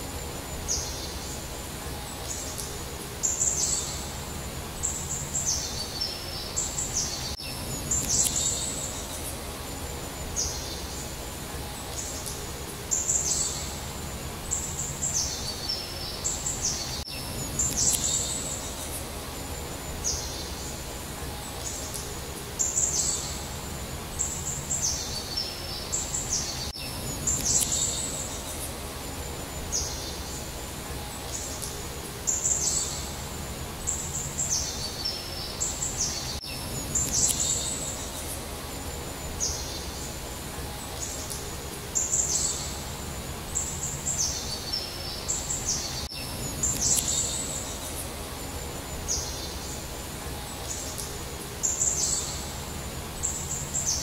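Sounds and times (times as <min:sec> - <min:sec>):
songbirds chirping: 0:00.0 - 0:54.0
steady low background noise: 0:00.0 - 0:54.0.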